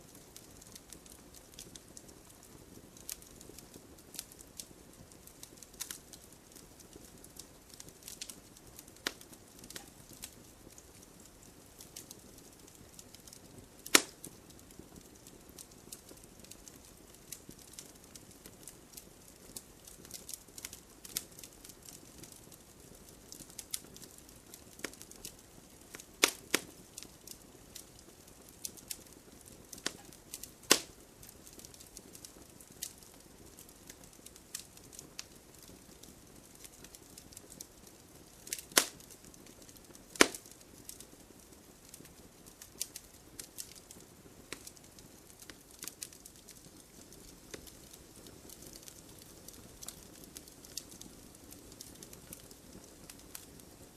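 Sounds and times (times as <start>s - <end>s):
loud sharp pops of fire: 0.0s - 53.7s
campfire crackling: 0.0s - 53.9s.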